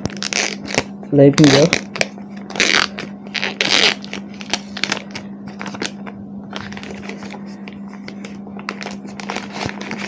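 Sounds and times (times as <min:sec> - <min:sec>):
plastic wrap crackling: 0:00.0 - 0:10.0
steady low hum: 0:00.0 - 0:10.0.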